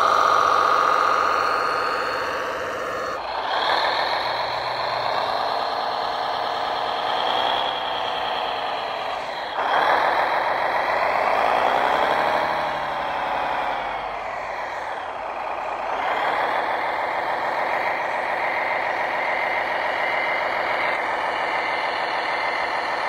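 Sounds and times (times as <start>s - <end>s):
toy tractor engine sound: 0.0s - 23.0s.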